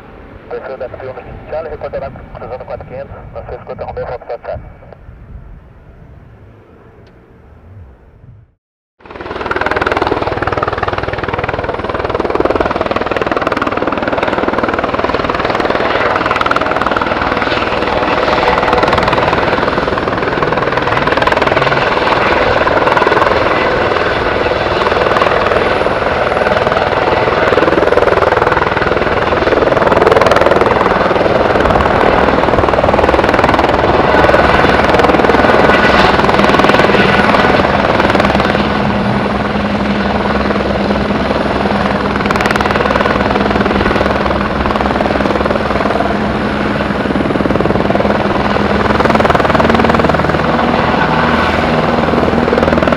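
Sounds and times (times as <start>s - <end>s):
helicopter rotor noise: 0.0s - 8.2s, 9.0s - 52.9s.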